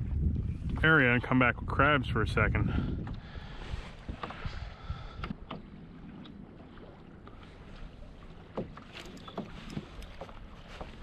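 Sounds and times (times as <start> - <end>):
water slapping kayak hull: 0.0 - 11.0
wind rumble on microphone: 0.0 - 11.0.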